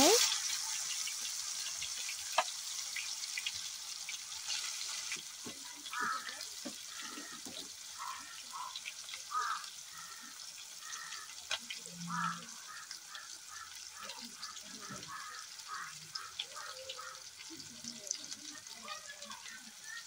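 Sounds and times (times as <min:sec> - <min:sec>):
chicken frying in hot oil: 0:00.0 - 0:20.0
oil crackling and popping: 0:00.0 - 0:20.0.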